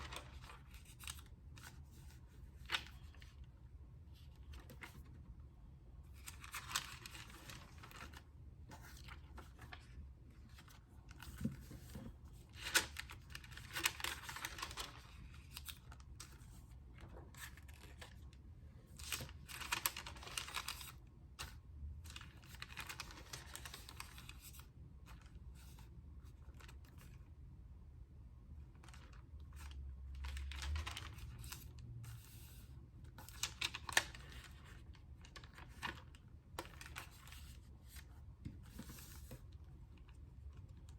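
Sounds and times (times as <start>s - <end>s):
paper pages turning: 0.0s - 3.5s, 4.1s - 5.3s, 6.1s - 27.2s, 28.7s - 40.9s.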